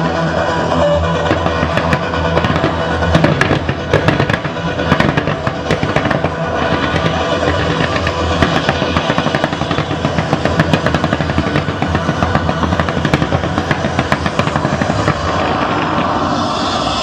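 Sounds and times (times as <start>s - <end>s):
firework bangs and crackle: 0.0s - 17.0s
music: 0.0s - 17.0s.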